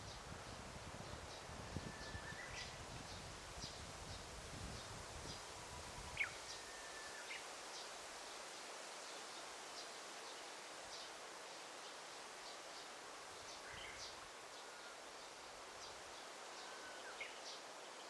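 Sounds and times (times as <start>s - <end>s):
soft background hiss: 0.0s - 18.0s.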